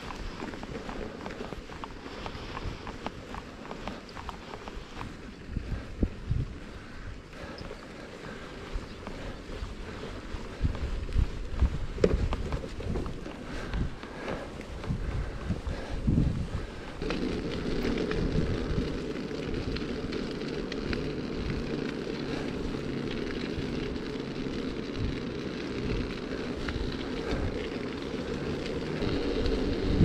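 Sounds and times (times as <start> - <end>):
low rumbling noise: 0.0 - 30.0.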